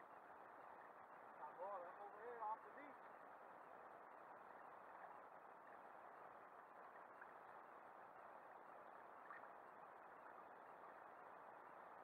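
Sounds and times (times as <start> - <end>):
muffled hiss of sea and wind: 0.0 - 12.0.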